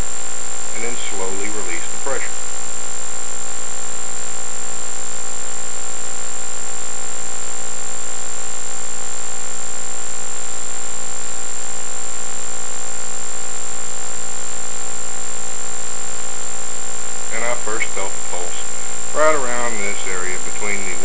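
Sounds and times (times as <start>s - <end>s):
electronic hum and hiss: 0.0s - 21.0s.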